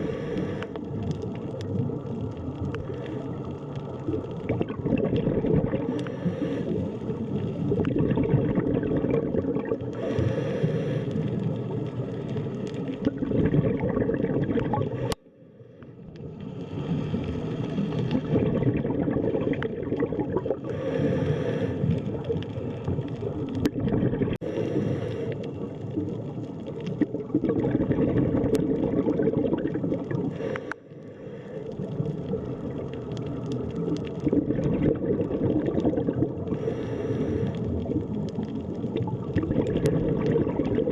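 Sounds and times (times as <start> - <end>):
underwater gurgling rumble: 0.0 - 40.9.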